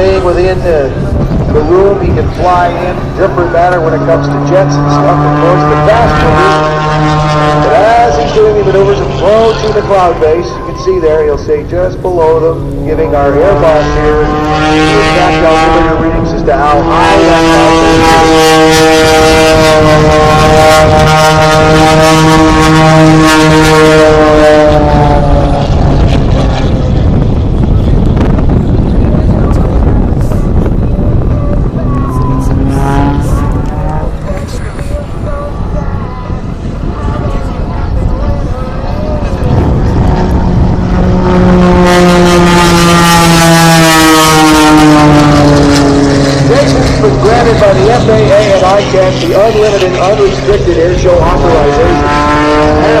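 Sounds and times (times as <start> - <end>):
airplane engine and propeller drone: 0.0 - 53.0.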